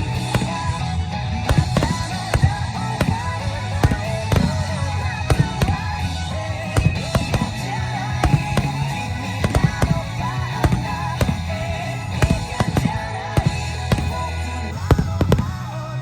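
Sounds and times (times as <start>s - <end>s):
fireworks bangs: 0.0s - 15.7s
music with bass line: 0.0s - 16.0s.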